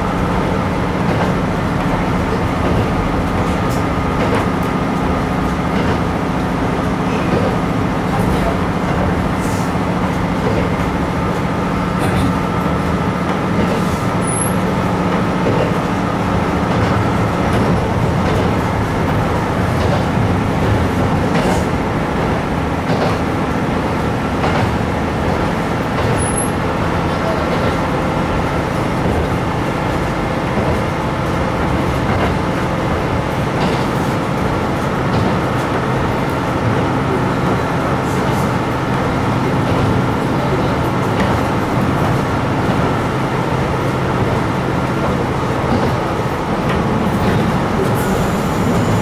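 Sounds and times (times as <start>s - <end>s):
diesel engine drone: 0.0s - 49.0s
wheels rumbling: 0.0s - 49.0s.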